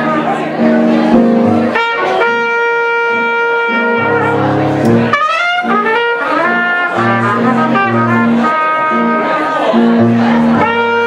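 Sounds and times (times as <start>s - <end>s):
tuba bass notes: 0.0s - 11.0s
trumpet playing: 1.4s - 11.0s.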